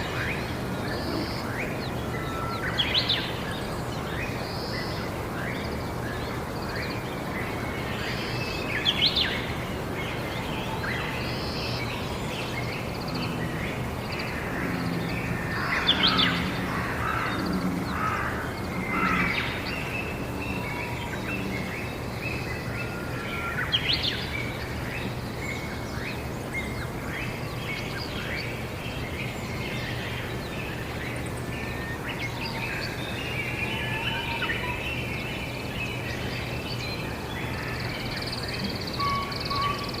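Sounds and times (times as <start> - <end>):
steady low hum: 0.0 - 32.1
birds chirping and calling: 0.0 - 40.0.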